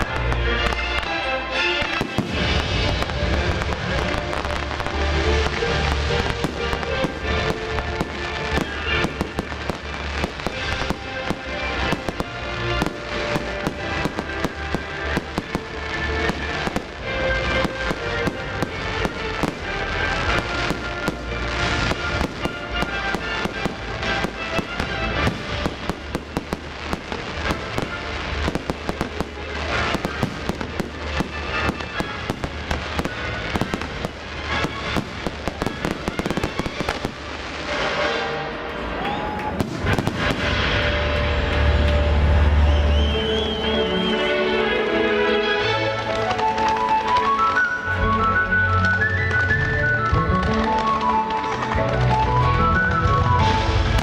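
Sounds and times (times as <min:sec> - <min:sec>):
fireworks bursting and crackling: 0:00.0 - 0:54.0
music: 0:00.0 - 0:54.0.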